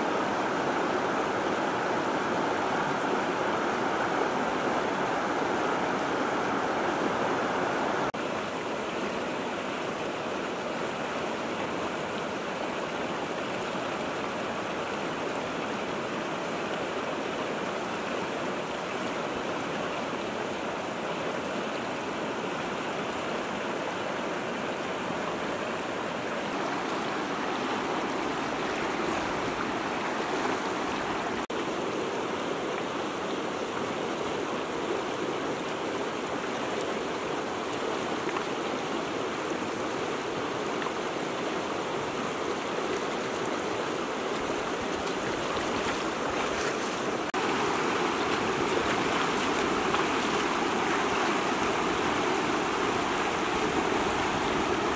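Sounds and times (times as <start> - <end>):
river rushing over stones: 0.0 - 54.9.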